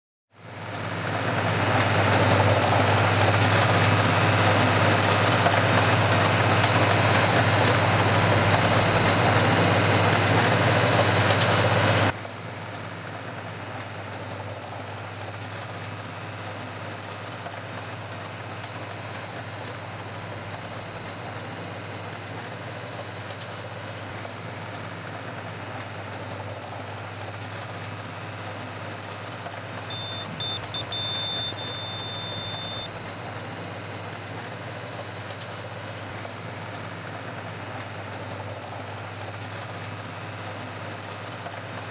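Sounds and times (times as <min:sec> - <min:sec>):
engine running: 0:00.4 - 0:41.9.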